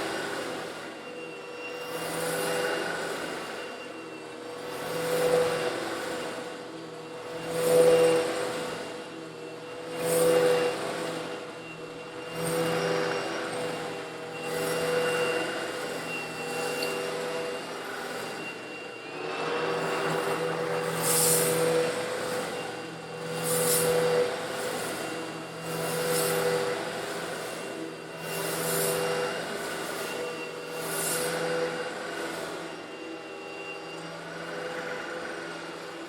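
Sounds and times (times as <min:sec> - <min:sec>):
vacuum cleaner motor humming: 0:00.0 - 0:36.0.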